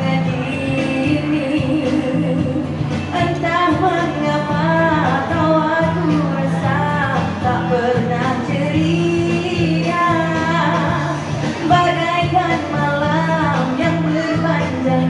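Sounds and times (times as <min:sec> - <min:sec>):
backing music: 0:00.0 - 0:15.0
woman singing into microphone: 0:00.0 - 0:15.0.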